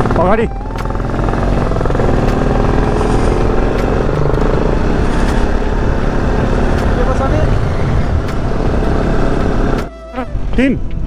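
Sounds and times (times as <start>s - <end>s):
motorcycle engine running: 0.0s - 9.9s
road noise: 0.0s - 11.0s.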